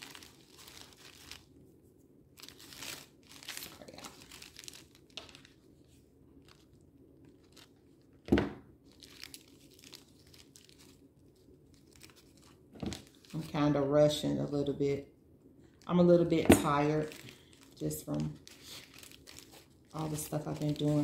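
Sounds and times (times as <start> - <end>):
paper rustling and crinkling: 0.0 - 1.5, 2.4 - 13.5, 16.2 - 21.0.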